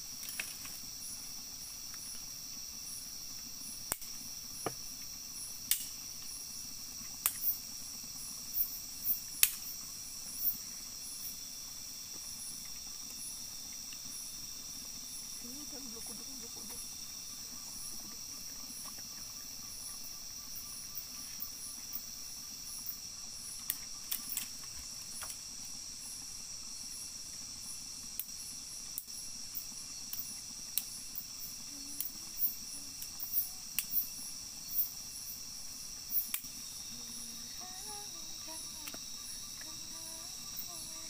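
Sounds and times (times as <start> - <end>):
crickets trilling: 0.0 - 41.0
higher insect pulsing: 0.0 - 41.0
sharp ticks and crackles: 0.0 - 41.0.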